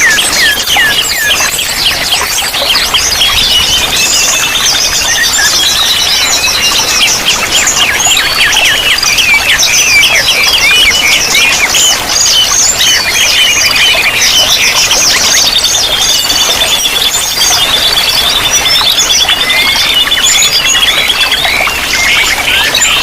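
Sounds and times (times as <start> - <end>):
running water: 0.0 - 23.0
songbirds chirping and trilling: 0.0 - 23.0.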